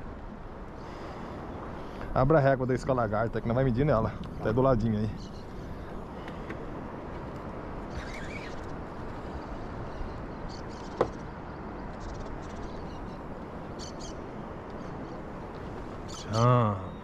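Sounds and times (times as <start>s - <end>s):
river water: 0.0s - 17.0s
wind: 0.0s - 17.0s.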